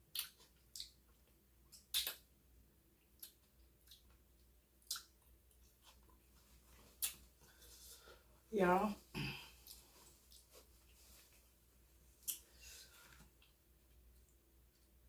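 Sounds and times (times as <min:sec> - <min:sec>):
soft chewing: 0:00.0 - 0:02.3, 0:02.9 - 0:08.3, 0:09.0 - 0:15.0.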